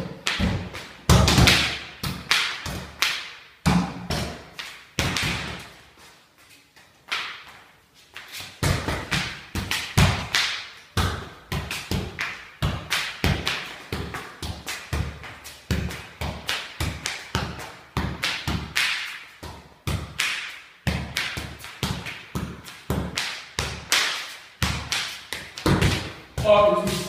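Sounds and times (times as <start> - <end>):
football kicks in echoing room: 0.0 - 27.0.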